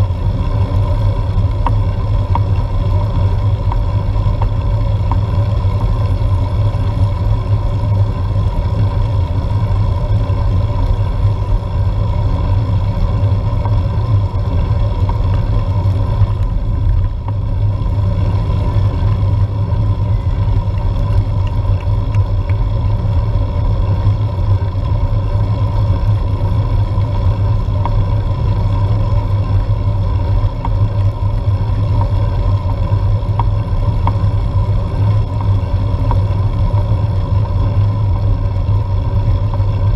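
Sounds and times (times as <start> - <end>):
faint steady hum: 0.0 - 39.9
road and tyre rumble: 0.0 - 39.9
wind: 0.0 - 39.9.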